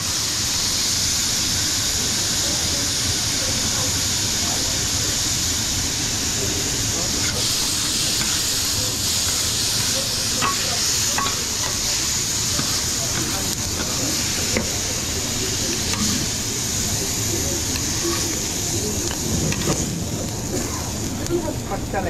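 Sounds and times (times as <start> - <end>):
kitchen hiss: 0.0 - 22.0.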